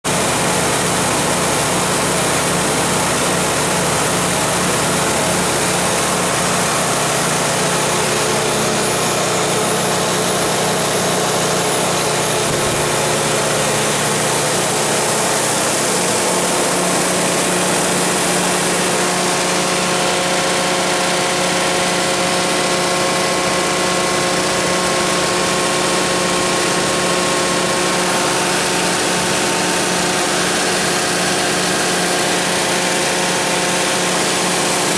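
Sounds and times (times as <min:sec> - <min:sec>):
generator engine running: 0:00.1 - 0:34.9.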